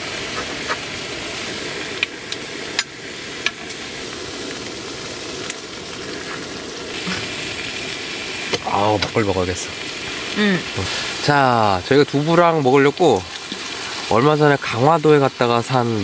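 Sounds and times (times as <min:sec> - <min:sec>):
food sizzling in a frying pan: 0:00.0 - 0:16.0.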